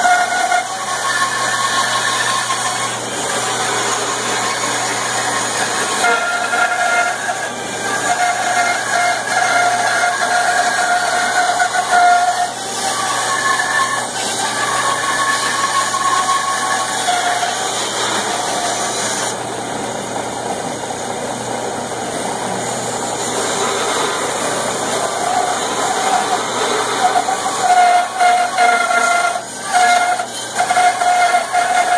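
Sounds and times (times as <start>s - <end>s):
band saw cutting wood: 0.0s - 21.0s, 21.8s - 31.9s.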